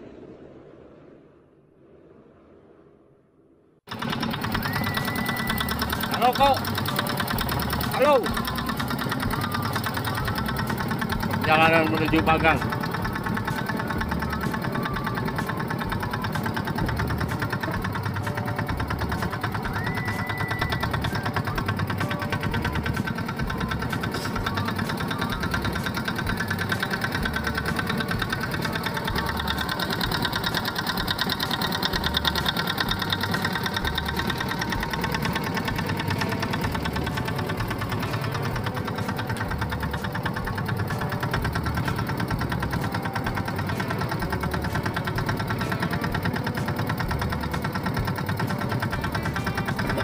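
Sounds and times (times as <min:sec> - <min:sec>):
motor boat engine chugging: 0:03.9 - 0:50.0.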